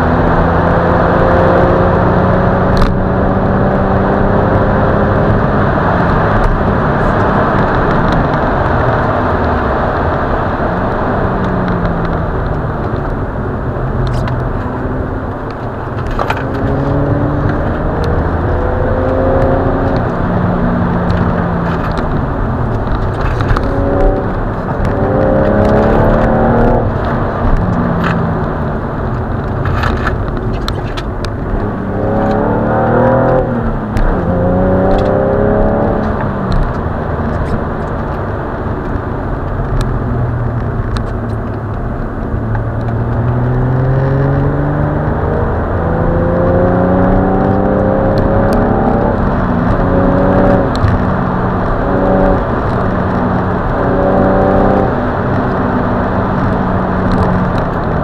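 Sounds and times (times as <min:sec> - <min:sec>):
car engine revving: 0:00.0 - 0:58.0
tyre and wind noise: 0:00.0 - 0:58.0.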